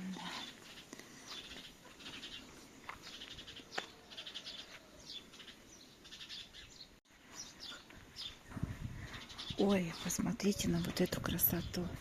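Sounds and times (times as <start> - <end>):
birds singing with trills: 0.0 - 12.0.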